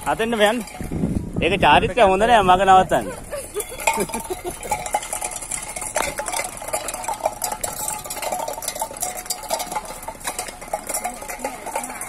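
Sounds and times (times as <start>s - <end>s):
wheelbarrow clattering on dirt path: 0.0s - 12.0s.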